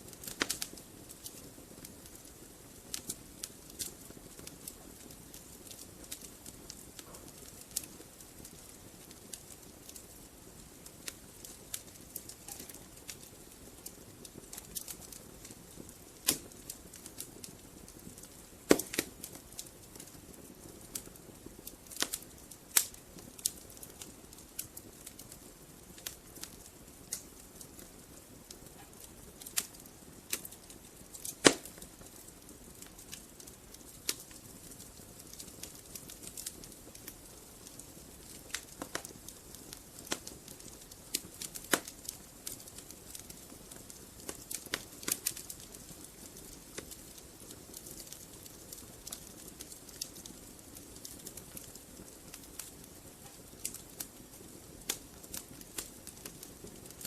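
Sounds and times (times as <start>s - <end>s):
soft steady fire hiss: 0.0s - 57.0s
wood fire crackling and popping: 0.0s - 57.0s.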